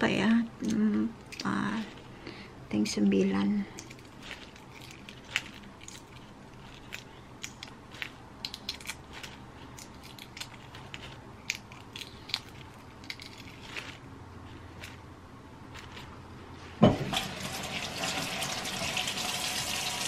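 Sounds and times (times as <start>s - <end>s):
faint low hum: 0.0s - 19.4s
eggshell crackling: 0.6s - 19.0s.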